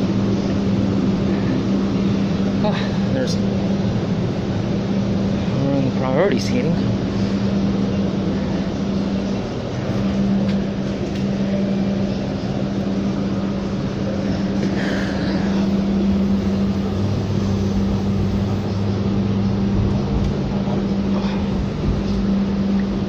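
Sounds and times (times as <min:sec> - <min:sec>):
lower hum: 0:00.0 - 0:23.0
streetcar cabin hum: 0:00.0 - 0:23.0.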